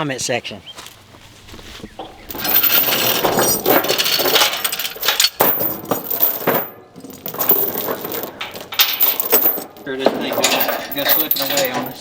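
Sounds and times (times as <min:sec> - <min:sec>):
steel chain clinking and rattling: 0:02.0 - 0:12.0.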